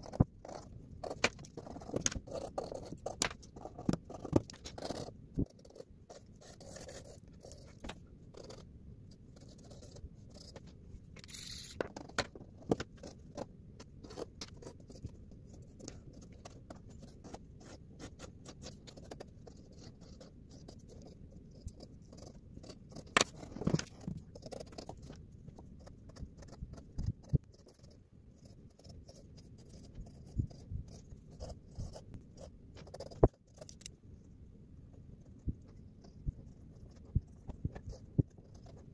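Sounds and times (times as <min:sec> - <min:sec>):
pencil scratching on paper: 0:00.0 - 0:33.8, 0:34.9 - 0:38.9.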